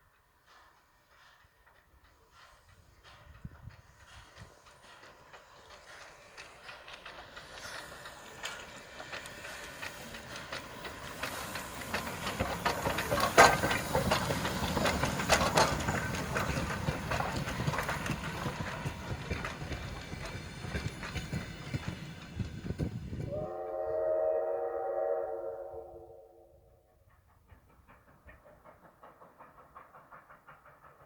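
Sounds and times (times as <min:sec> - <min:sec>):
steam train rattling past: 0:00.0 - 0:31.0.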